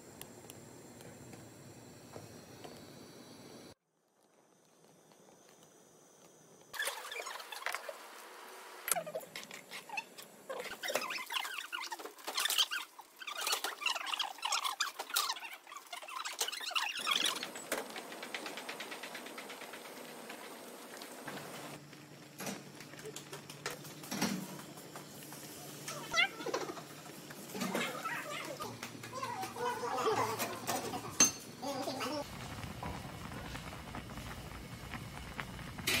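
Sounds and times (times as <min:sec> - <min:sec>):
broth boiling and bubbling: 0:00.0 - 0:36.0.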